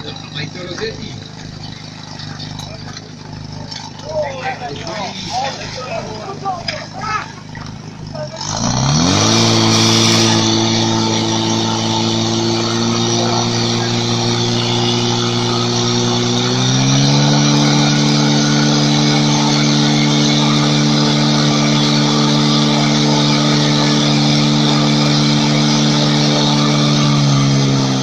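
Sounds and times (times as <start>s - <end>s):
pump engine revving: 0.0s - 28.0s.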